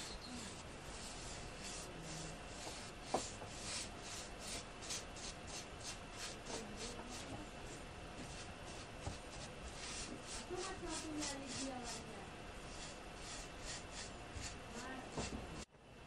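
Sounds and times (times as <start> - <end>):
paintbrush strokes on wood: 0.0 - 15.7.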